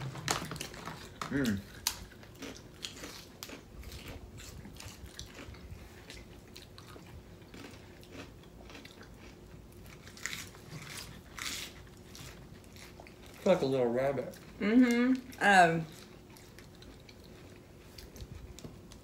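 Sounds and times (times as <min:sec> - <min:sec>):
people chewing crisp food: 0:00.0 - 0:19.0.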